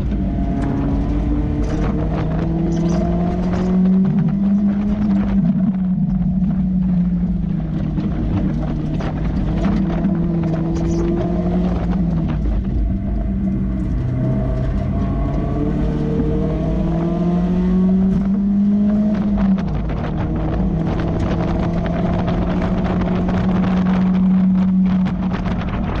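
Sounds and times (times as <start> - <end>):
car engine accelerating hard: 0.0 - 26.0
wind noise: 0.0 - 26.0.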